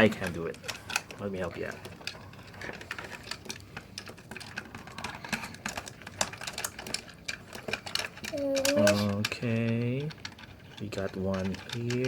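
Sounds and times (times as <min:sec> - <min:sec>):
plastic toys clicking and clattering: 0:00.0 - 0:12.0.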